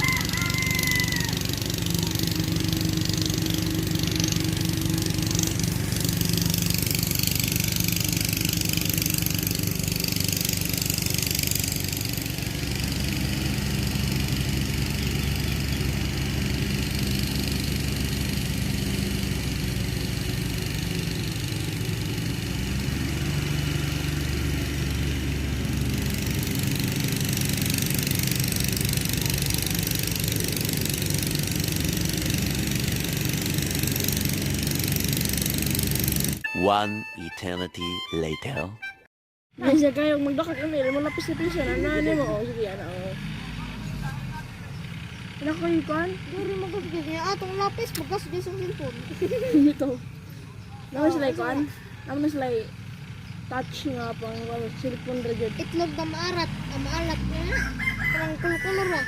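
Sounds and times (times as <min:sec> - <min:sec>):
tractor diesel engine running: 0:00.0 - 0:38.9, 0:39.6 - 0:59.0.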